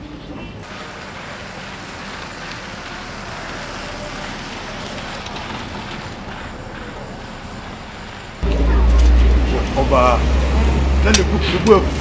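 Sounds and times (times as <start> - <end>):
outdoor ambience hiss: 0.0 - 12.0.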